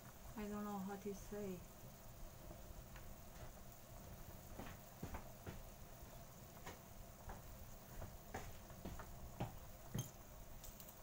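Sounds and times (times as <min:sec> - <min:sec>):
sauce simmering in a wok: 0:00.0 - 0:11.0.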